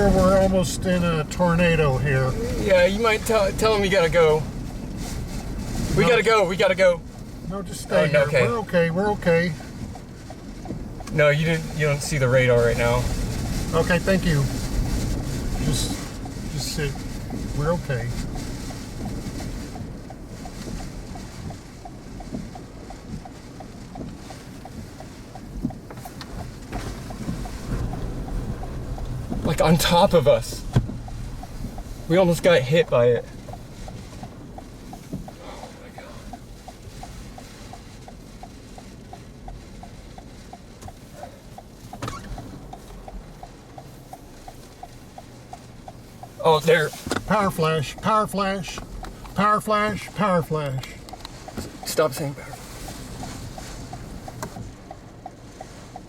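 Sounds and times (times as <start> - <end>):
light ticking: 0.0 - 56.0
steady low rumble: 0.0 - 56.0
wind rushing against vehicle: 0.0 - 56.0.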